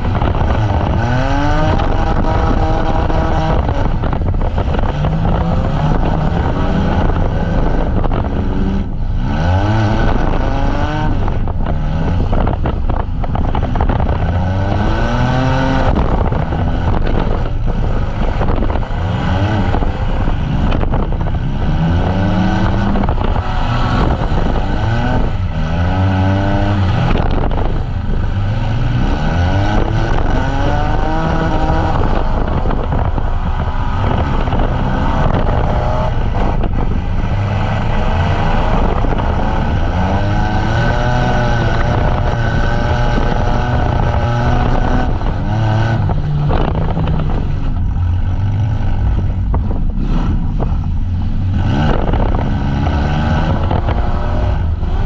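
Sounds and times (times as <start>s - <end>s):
engines revving hard: 0.0s - 55.0s.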